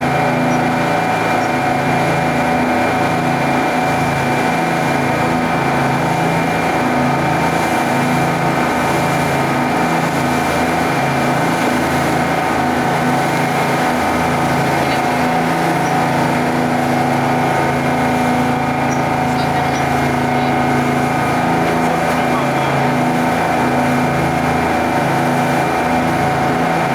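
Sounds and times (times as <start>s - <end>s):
boat engine droning: 0.0s - 26.9s.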